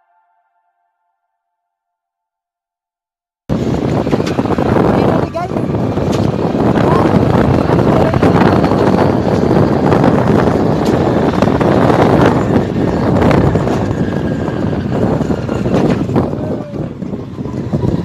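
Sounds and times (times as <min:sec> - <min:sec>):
scooter running: 0:03.5 - 0:18.0
wind rushing over microphone: 0:03.5 - 0:18.0.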